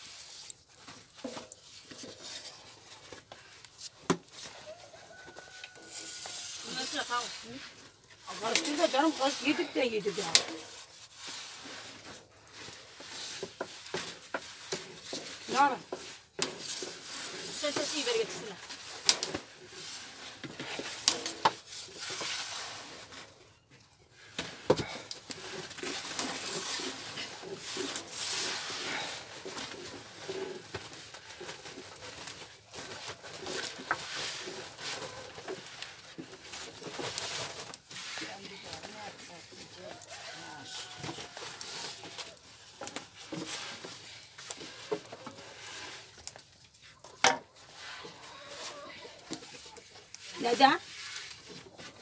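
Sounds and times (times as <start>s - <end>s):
dough sheets rustling: 0.0s - 52.0s.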